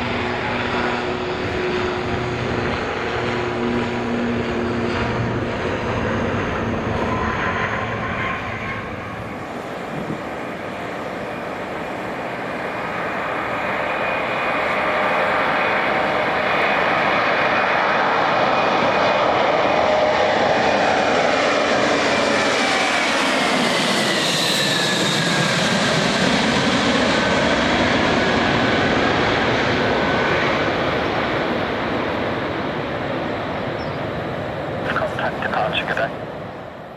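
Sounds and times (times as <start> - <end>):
airplane engines passing: 0.0 - 36.9.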